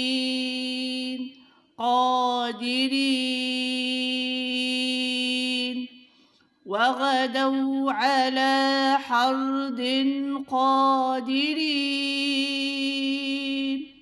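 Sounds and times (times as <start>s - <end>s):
person chanting melodically: 0.0s - 6.0s, 6.7s - 14.0s.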